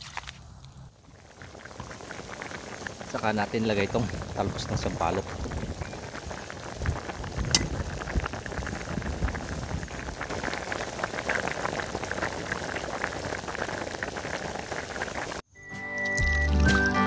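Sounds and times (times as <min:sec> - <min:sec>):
broth bubbling and popping: 0:01.0 - 0:15.4.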